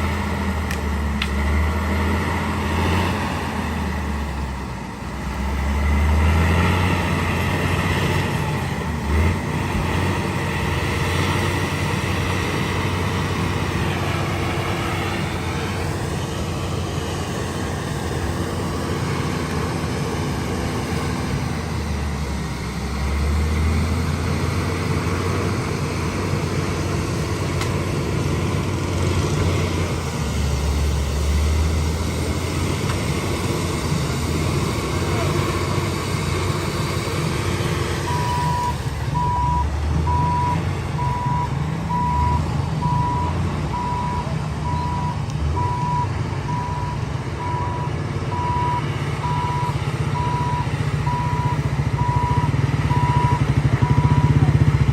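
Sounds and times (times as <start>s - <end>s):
heavy diesel machinery working: 0.0s - 54.9s.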